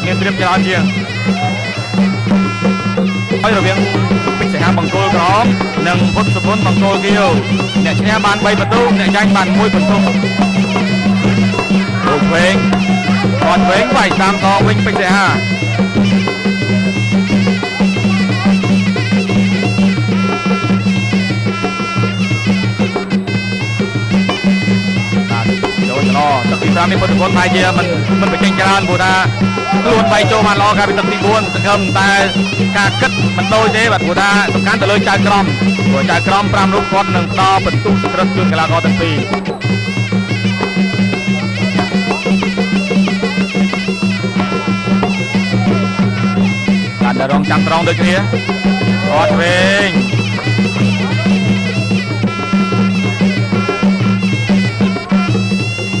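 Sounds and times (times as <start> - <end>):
oboe wailing melody: 0.0 - 56.0
steady drum beat: 0.0 - 56.0.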